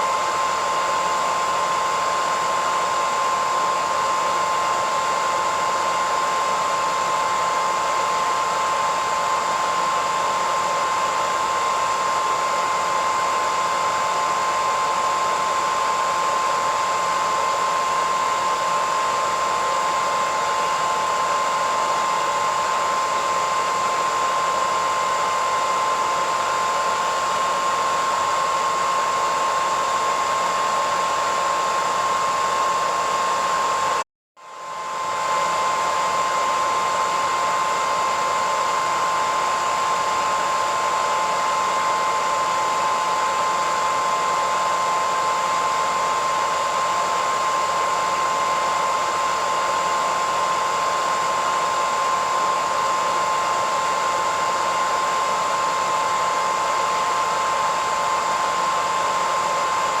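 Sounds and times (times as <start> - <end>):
hair dryer running: 0.0 - 60.0.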